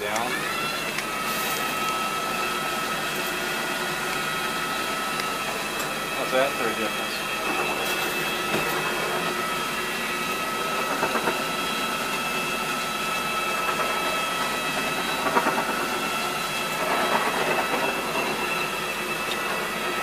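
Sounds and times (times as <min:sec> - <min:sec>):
carpet extraction tool whining: 0:00.0 - 0:20.0.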